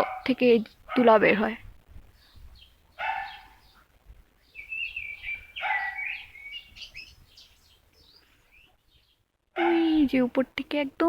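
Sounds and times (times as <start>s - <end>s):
songbirds singing: 0.0s - 10.4s.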